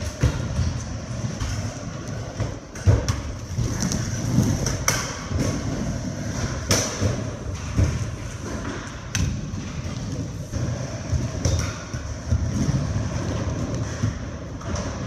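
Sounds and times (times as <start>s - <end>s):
skateboard wheels rolling: 0.0s - 15.0s.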